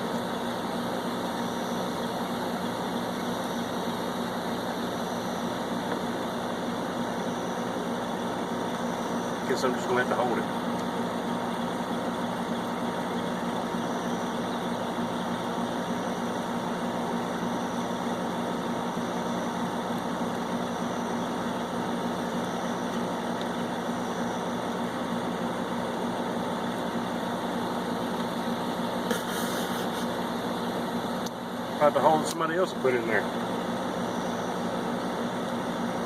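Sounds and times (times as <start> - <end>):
air conditioner humming: 0.0 - 36.0.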